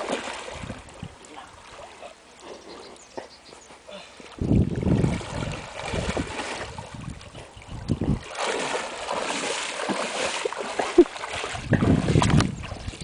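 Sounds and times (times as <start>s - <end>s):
water splashing around legs: 0.0s - 2.0s, 4.2s - 13.0s.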